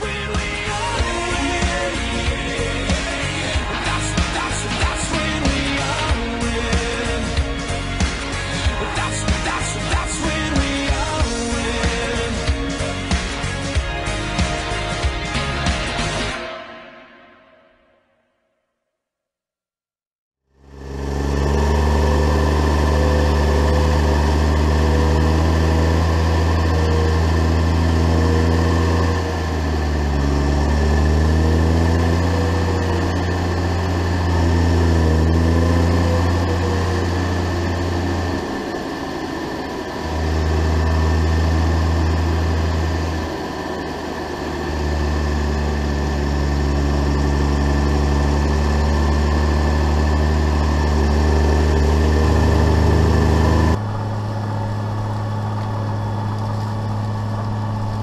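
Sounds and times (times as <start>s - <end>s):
tractor diesel engine running: 0.0s - 16.4s, 20.5s - 58.0s
steady high whine: 0.0s - 17.6s, 20.6s - 58.0s.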